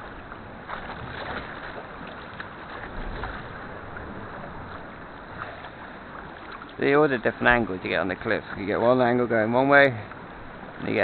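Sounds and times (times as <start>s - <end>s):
paddle water splashing: 0.0s - 11.0s.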